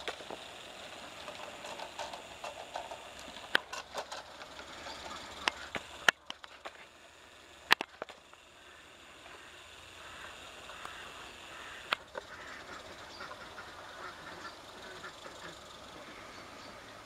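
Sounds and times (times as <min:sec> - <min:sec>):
sharp irregular clicks: 0:00.0 - 0:16.3
faint steam locomotive running: 0:00.0 - 0:17.0.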